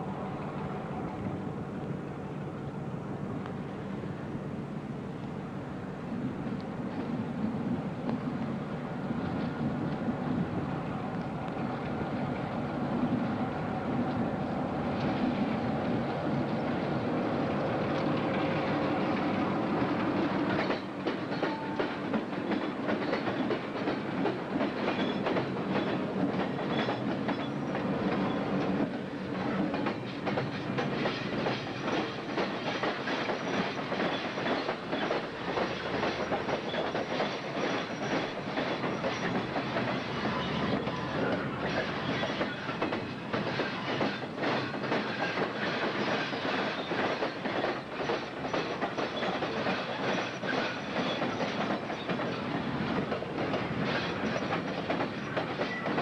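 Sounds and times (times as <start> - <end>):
diesel locomotive engine: 0.0 - 56.0
train wheels clickety-clack: 6.4 - 56.0.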